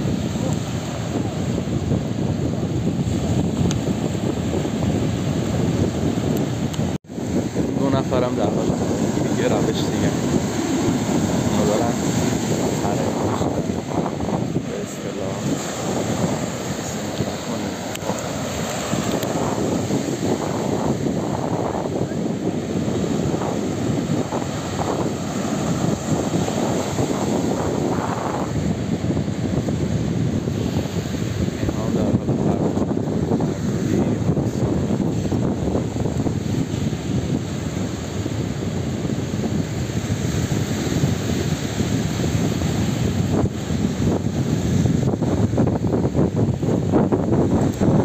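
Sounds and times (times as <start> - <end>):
sea surf breaking on shore: 0.0 - 48.0
wind buffeting microphone: 0.0 - 48.0.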